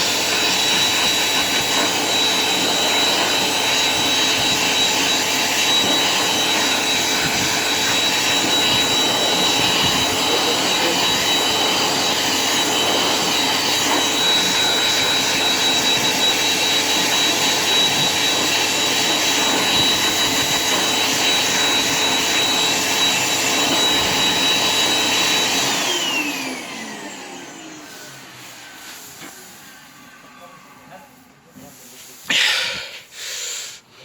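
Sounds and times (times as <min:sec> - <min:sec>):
electric hand dryer blowing: 0:00.0 - 0:30.3.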